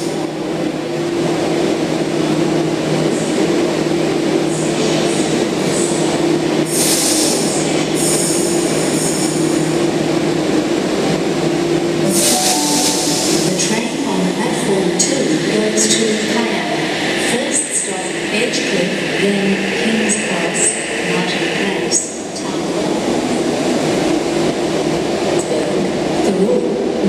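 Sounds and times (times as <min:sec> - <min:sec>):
electric train hum and rumble: 0:00.0 - 0:27.0.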